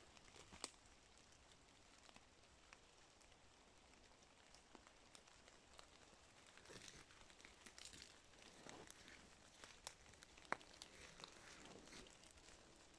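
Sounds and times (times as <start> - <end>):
rustling of wet leaves: 0.0 - 12.9.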